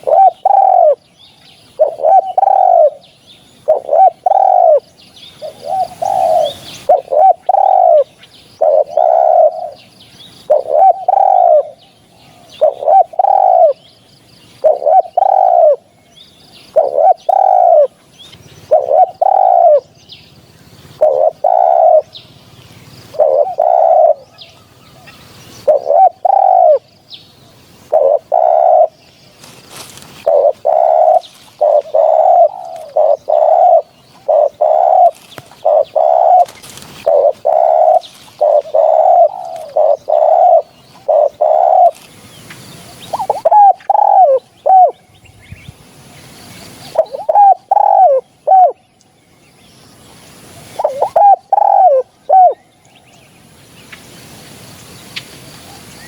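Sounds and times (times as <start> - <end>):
dove cooing: 0.0 - 1.0, 1.6 - 13.9, 14.5 - 16.0, 16.6 - 26.9, 27.6 - 42.2, 42.8 - 45.0, 46.7 - 48.8, 50.6 - 52.7.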